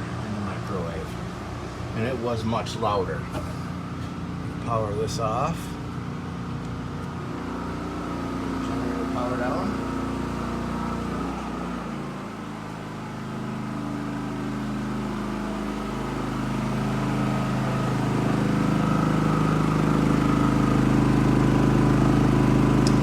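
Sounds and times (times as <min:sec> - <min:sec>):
portable generator engine running: 0:00.0 - 0:23.0.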